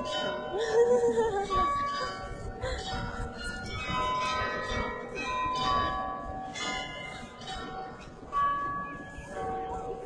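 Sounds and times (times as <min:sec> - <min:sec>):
carillon bells playing a tune: 0:00.0 - 0:10.0.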